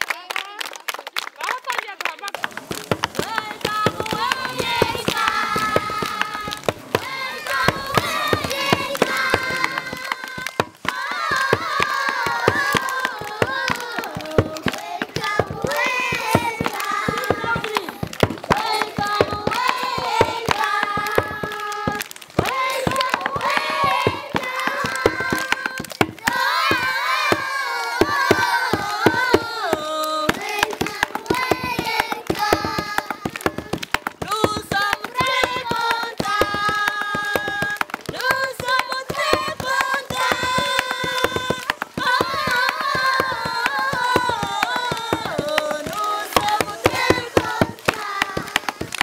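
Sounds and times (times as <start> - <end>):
rhythmic hand clapping: 0.0 - 49.0
children singing in chorus: 3.1 - 33.8, 34.8 - 49.0.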